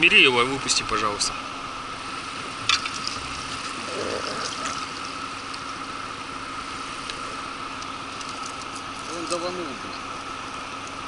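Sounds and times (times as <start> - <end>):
engine humming at idle: 0.0 - 11.0.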